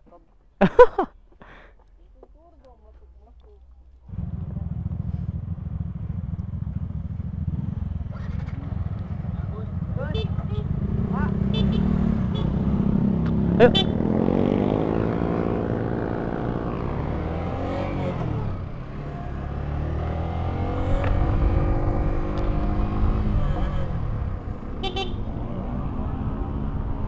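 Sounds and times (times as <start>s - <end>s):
motorcycle engine revving: 4.1s - 27.0s.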